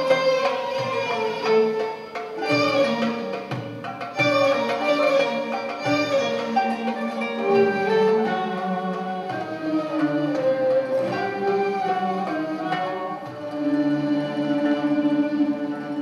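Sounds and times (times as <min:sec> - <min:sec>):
classical ensemble playing instrumental: 0:00.0 - 0:16.0.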